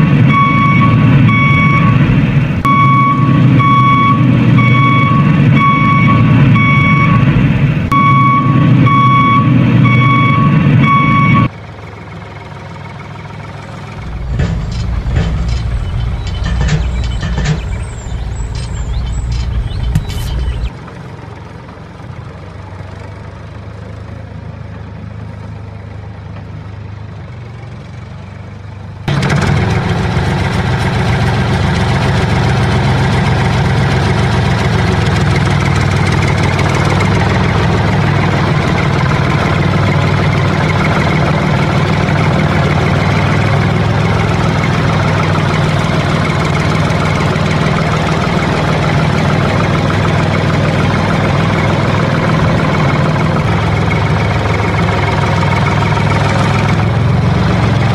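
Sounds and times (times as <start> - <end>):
engine idling: 0.3 - 57.9.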